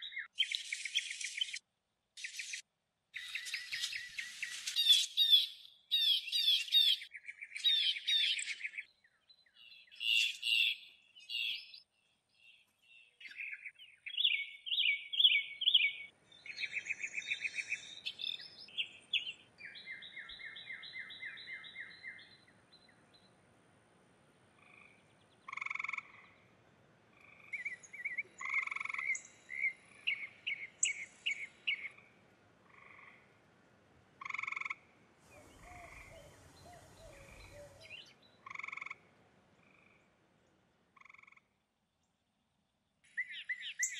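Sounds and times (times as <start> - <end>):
songbirds singing: 0.0 - 1.6, 2.2 - 33.4, 34.2 - 43.9.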